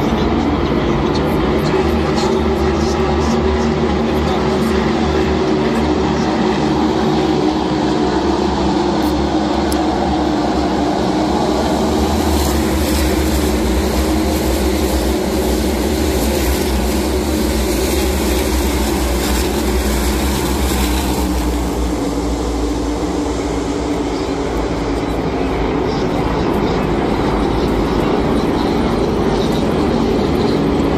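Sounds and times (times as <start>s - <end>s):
race car engines droning: 0.0s - 30.9s.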